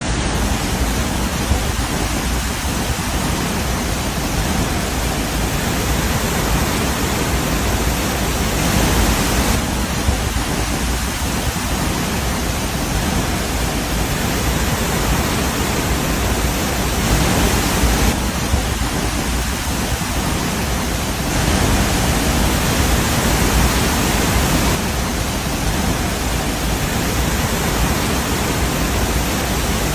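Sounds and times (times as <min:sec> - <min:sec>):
loud steady rushing noise: 0:00.0 - 0:29.9.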